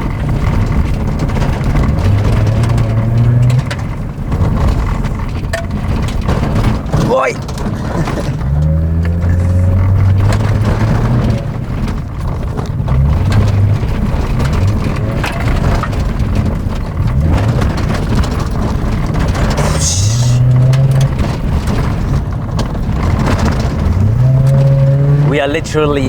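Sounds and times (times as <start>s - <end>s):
knocks and rattles: 0.0s - 26.0s
tyres on gravel: 0.0s - 26.0s
car engine revving: 0.2s - 26.0s.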